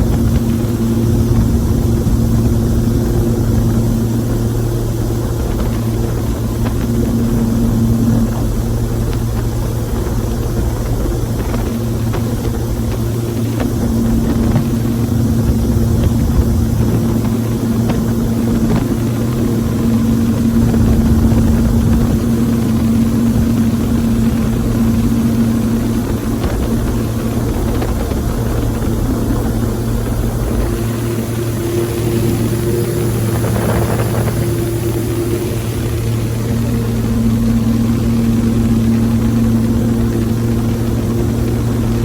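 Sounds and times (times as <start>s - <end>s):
boat engine drone: 0.0s - 42.0s.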